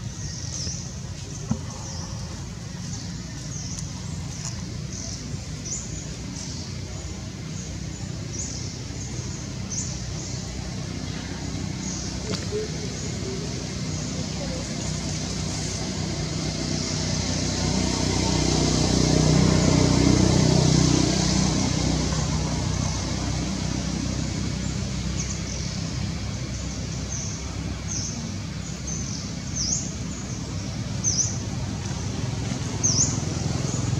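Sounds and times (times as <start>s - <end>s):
vehicle engine hum: 0.0s - 33.9s.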